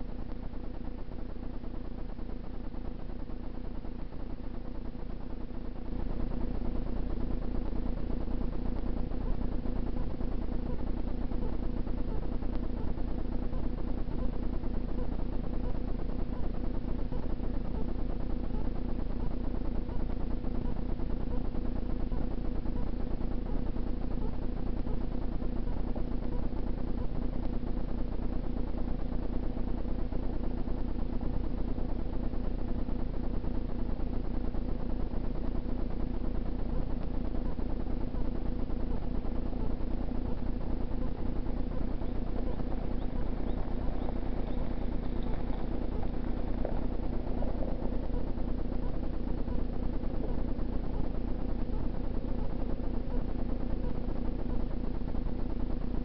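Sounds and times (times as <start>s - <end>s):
constant hum: 0.0s - 56.0s.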